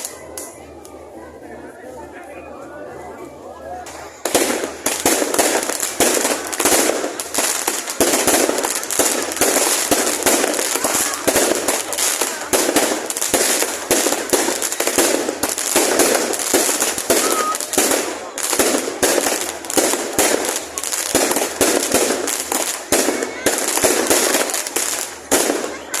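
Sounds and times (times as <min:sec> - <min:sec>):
fireworks crackling and banging: 0:00.0 - 0:02.1, 0:02.9 - 0:26.0.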